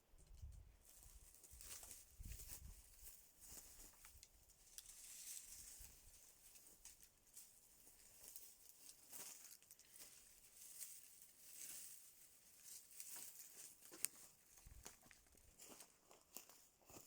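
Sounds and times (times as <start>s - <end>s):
faint rustling and crackling: 0.0s - 17.0s.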